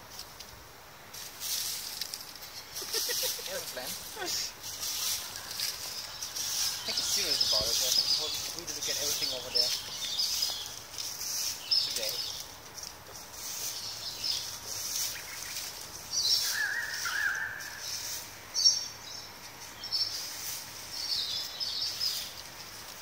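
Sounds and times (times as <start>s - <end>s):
small birds chirping: 1.8s - 23.0s.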